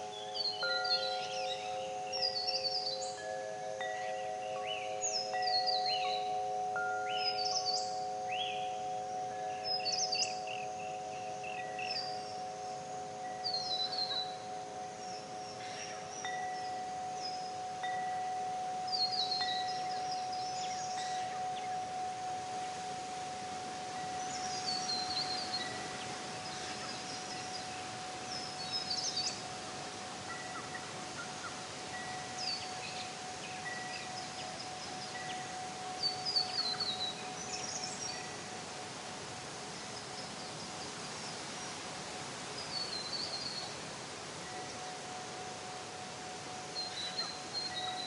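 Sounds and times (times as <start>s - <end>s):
steady hiss: 0.0s - 48.0s
wind chimes ringing: 0.0s - 48.0s.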